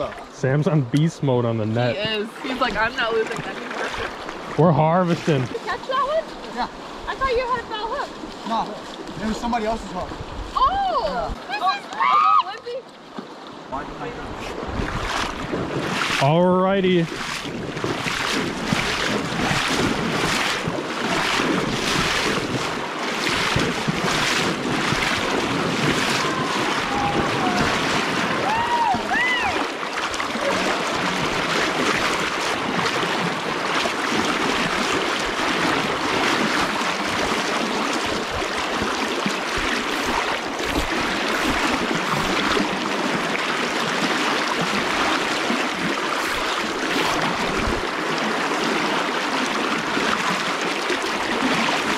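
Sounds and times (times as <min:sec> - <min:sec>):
river water rushing and splashing: 0:00.0 - 0:51.9.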